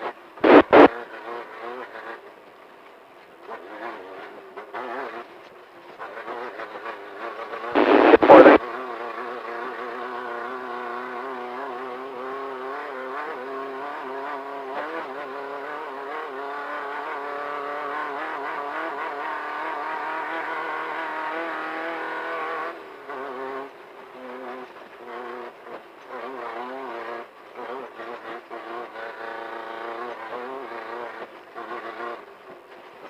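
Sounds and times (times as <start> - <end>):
race car engine at high revs: 0.0 - 33.0.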